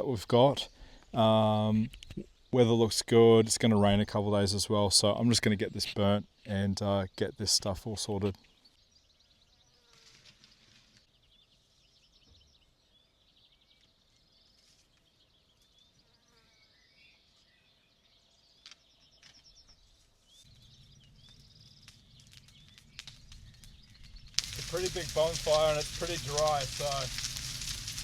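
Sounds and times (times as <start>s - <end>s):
faint birds chirping: 0.0s - 28.0s.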